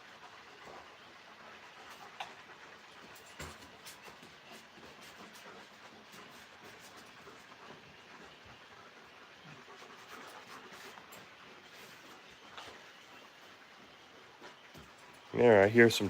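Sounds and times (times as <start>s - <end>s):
dogs moving about: 0.6s - 13.6s.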